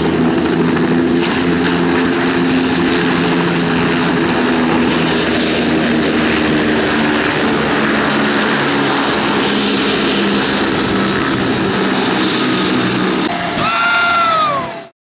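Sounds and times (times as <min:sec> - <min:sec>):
helicopter rotor turning: 0:00.0 - 0:14.9
turbine engine high whine: 0:00.0 - 0:15.0.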